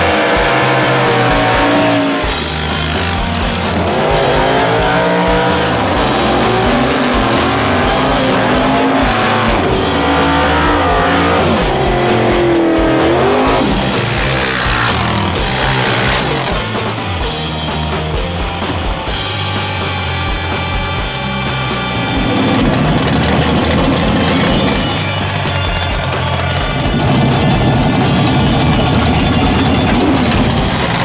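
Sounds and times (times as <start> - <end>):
drag racing engines revving: 0.0 - 31.0
rock music: 0.0 - 31.0.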